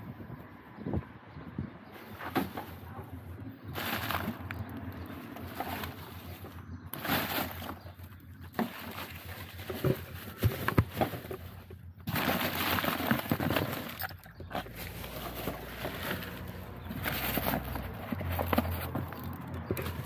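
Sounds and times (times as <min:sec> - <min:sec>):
close-up rustling: 0:01.9 - 0:20.0.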